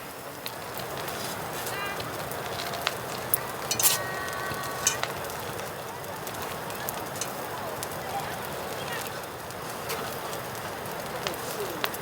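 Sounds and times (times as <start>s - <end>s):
food sizzling in a pan: 0.6s - 12.0s.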